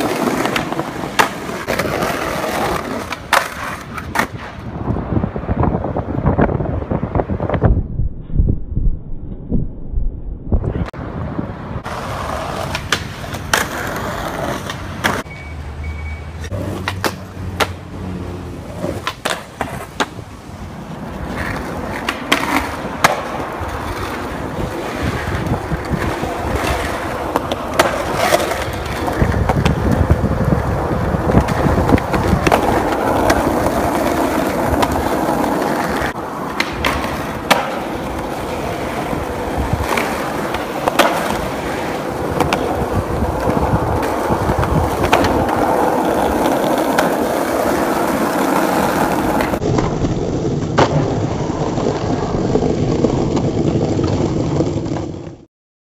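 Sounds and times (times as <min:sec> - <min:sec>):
skateboard clacking on ground: 0:00.0 - 0:04.7, 0:11.8 - 0:15.3, 0:16.4 - 0:17.8, 0:18.7 - 0:20.2, 0:20.9 - 0:55.4
skateboard wheels rolling on pavement: 0:00.0 - 0:07.8, 0:10.6 - 0:55.5.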